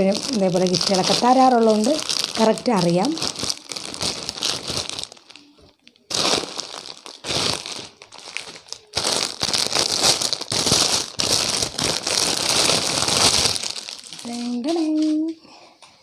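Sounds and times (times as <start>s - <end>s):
plastic packaging crinkling: 0.0s - 15.3s.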